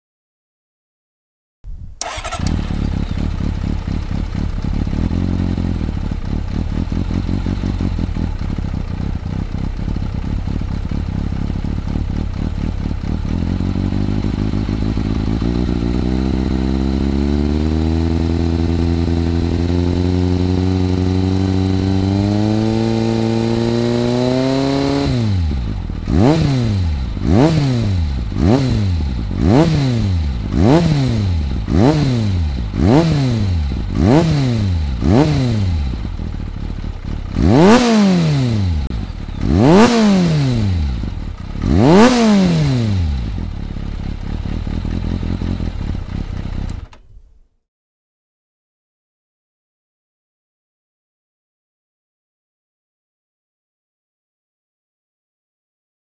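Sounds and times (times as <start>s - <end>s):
motorcycle engine revving: 2.0s - 47.4s.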